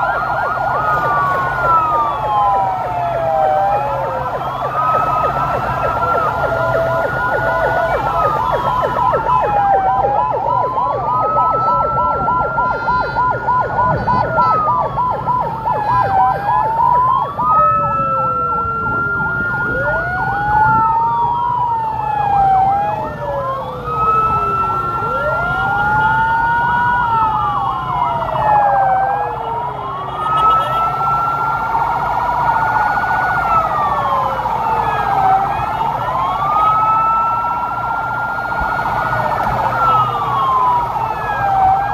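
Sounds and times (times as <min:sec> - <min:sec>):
fast warbling siren yelp: 0:00.0 - 0:41.9
lower siren wail: 0:00.0 - 0:41.9
sirens wailing: 0:00.0 - 0:41.9
vehicle engines and traffic hum: 0:00.0 - 0:41.9.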